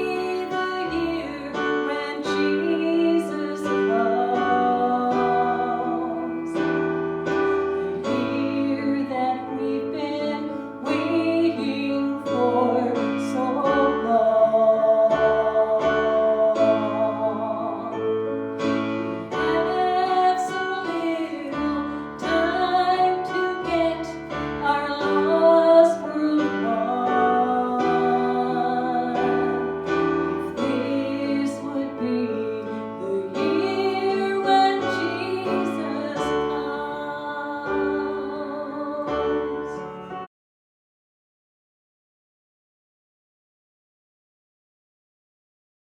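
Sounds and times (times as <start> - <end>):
woman singing: 0.0 - 40.1
keyboard accompaniment: 0.0 - 40.3.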